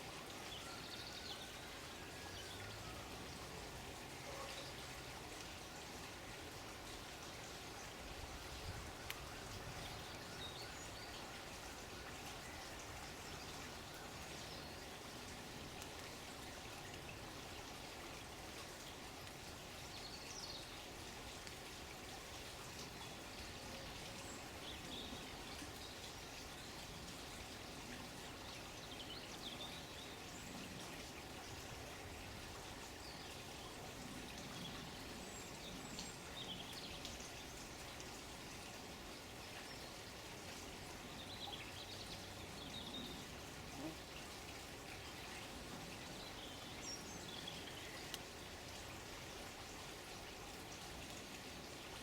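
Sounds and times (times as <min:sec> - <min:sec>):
faint running water: 0:00.0 - 0:52.0.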